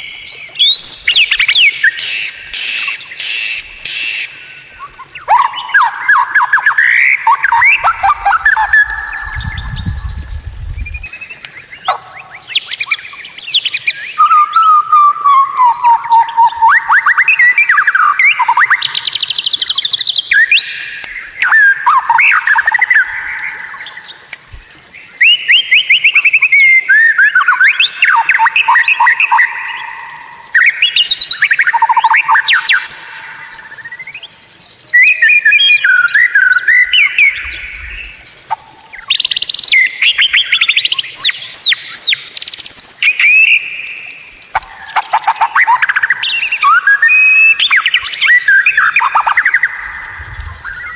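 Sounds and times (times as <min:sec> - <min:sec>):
songbird singing trills and whistles: 0:00.0 - 0:50.9.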